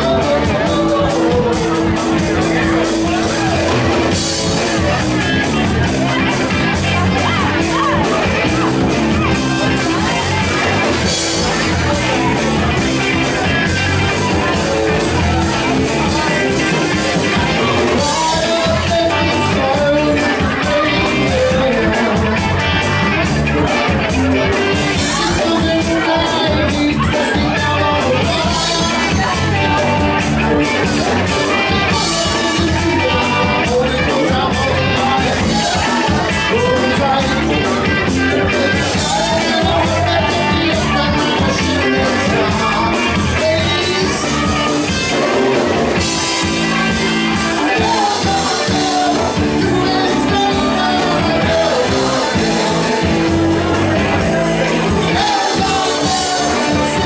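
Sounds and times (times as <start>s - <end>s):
drums: 0.0s - 57.0s
electric guitar: 0.0s - 57.0s
person singing: 0.0s - 57.0s.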